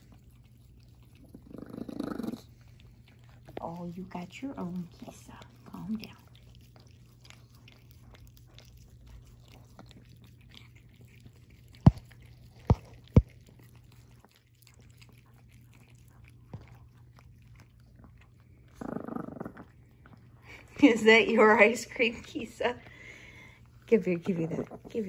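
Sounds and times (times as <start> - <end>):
puppy licking and lapping: 0.0 - 25.0.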